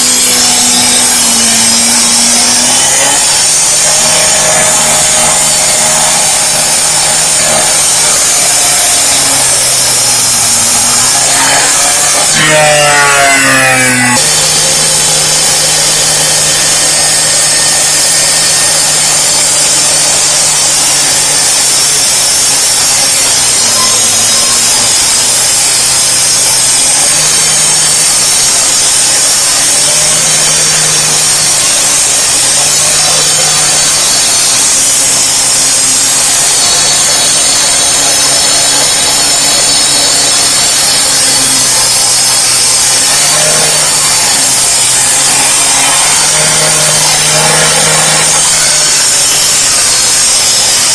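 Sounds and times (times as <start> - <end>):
concrete saw cutting: 0.0 - 50.9.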